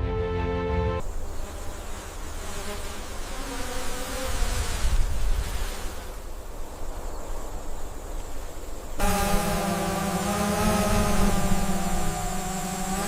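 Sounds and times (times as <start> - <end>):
insects buzzing: 1.0 - 13.0.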